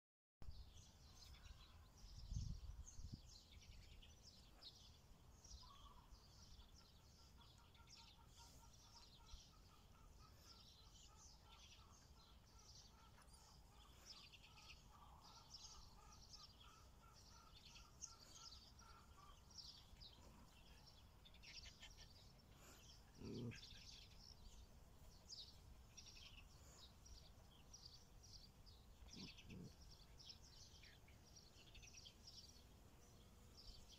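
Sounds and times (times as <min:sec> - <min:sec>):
small birds chirping: 0:00.5 - 0:33.9.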